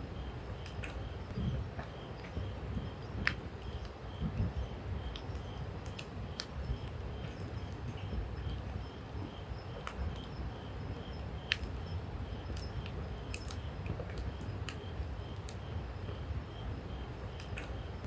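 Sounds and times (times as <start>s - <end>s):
low steady rumbling: 0.0s - 18.0s
campfire crackles and pops: 0.4s - 10.5s, 11.3s - 16.2s, 17.2s - 17.8s.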